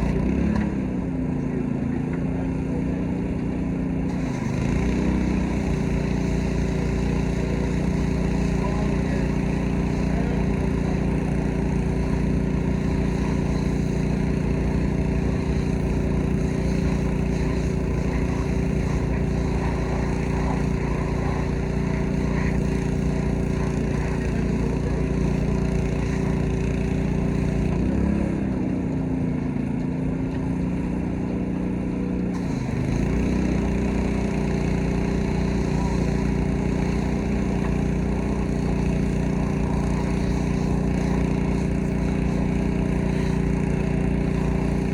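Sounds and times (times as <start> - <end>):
pressure washer engine running: 0.0 - 44.9.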